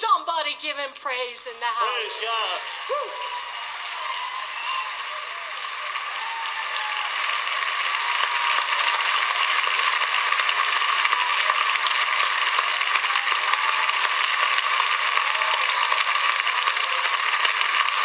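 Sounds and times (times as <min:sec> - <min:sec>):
crowd applauding: 0:01.8 - 0:18.0.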